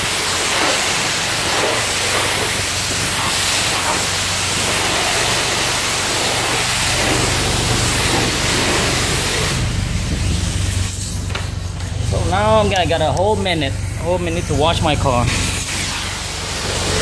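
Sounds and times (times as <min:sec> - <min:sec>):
pressure washer spraying water: 0:00.0 - 0:17.0
steady low hum: 0:00.0 - 0:17.0.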